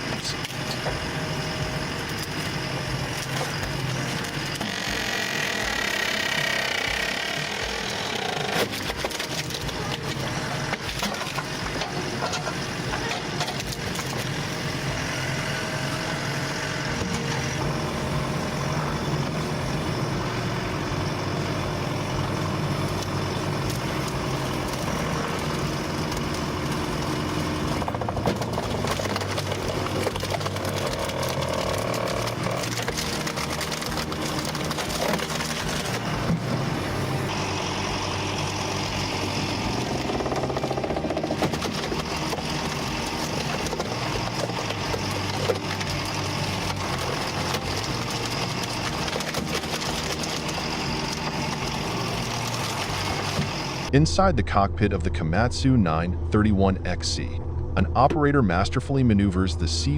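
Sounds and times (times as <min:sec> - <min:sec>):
firewood processor engine humming: 0:00.0 - 0:59.9
logs cracking and splitting: 0:01.8 - 0:20.4, 0:21.1 - 0:53.9.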